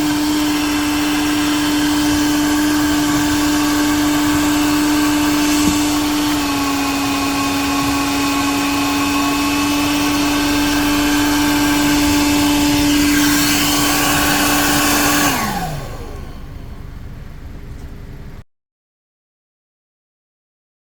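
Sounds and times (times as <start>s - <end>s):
vacuum motor whine: 0.0s - 18.4s.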